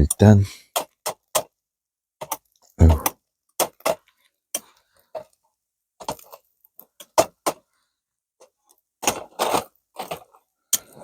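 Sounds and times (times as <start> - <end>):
objects clicking and knocking: 0.0 - 1.6, 2.2 - 5.4, 6.0 - 7.7, 8.4 - 11.0.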